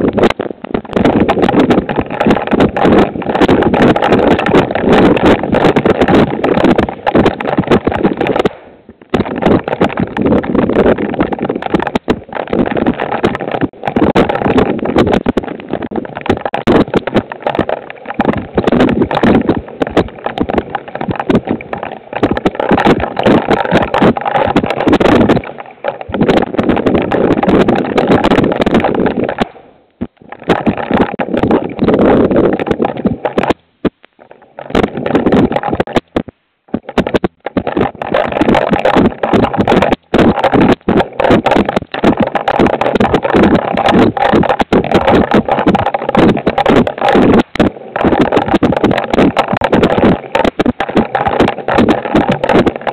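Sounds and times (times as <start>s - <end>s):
heavy rain pelting camera: 0.0s - 52.9s.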